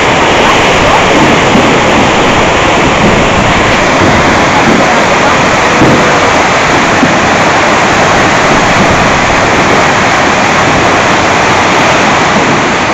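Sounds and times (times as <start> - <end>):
water rushing over spillway: 0.0 - 12.9.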